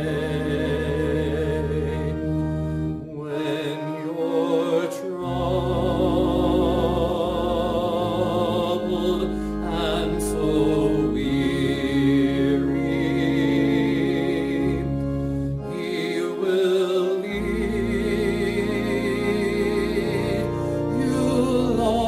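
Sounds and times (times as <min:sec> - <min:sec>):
sustained low bass notes: 0:00.0 - 0:04.3, 0:05.2 - 0:16.4, 0:17.2 - 0:22.0.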